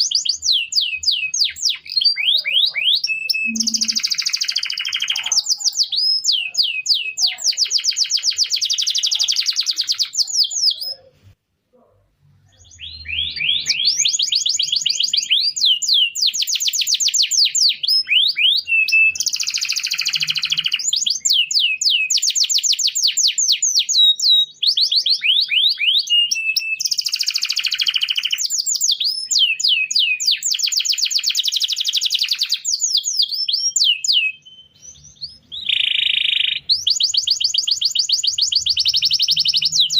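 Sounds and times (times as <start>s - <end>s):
canary singing: 0.0s - 11.4s, 12.4s - 39.9s.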